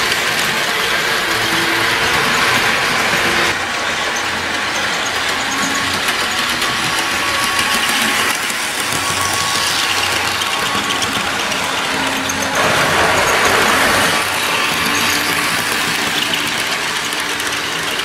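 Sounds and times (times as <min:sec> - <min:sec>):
model train motor whirring: 0:00.0 - 0:18.0
wheels rolling on rails: 0:00.0 - 0:18.0.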